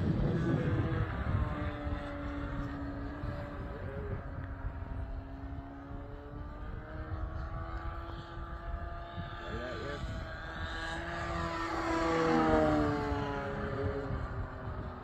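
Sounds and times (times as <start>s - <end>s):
model plane motor drone: 0.0s - 15.0s.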